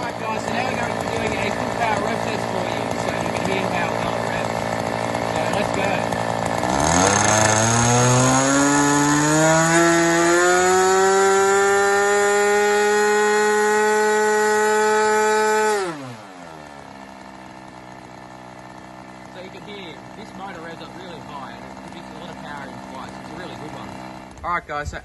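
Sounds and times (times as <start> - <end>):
model airplane engine revving: 0.0 - 25.0.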